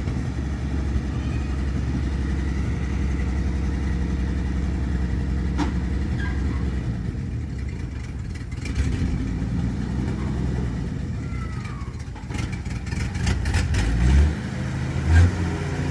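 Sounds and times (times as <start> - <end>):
truck engine running: 0.0 - 15.9.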